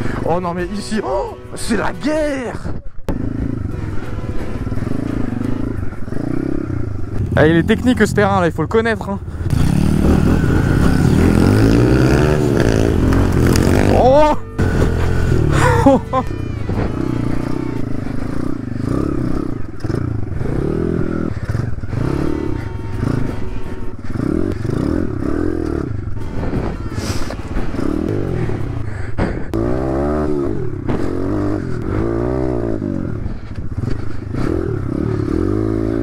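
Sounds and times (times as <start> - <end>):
dirt bike engine revving: 3.1 - 8.3, 9.2 - 36.0.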